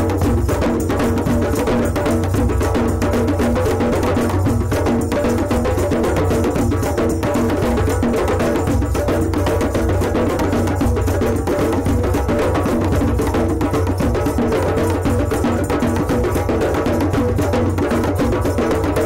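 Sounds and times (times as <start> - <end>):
hand drums playing together: 0.0 - 19.0.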